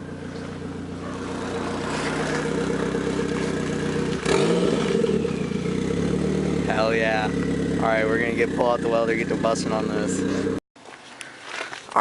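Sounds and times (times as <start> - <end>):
car engine approaching: 0.0 - 10.6.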